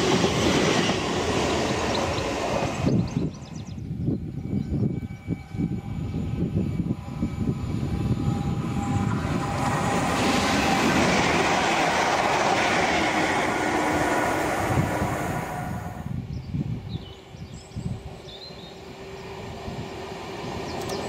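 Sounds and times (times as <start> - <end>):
electric train whine: 0.0 - 21.0
train rushing past: 0.0 - 21.0.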